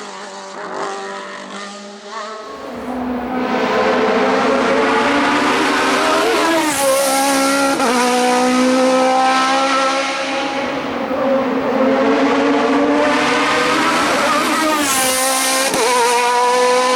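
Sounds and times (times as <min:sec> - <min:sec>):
race car engine at high revs: 0:00.0 - 0:16.9.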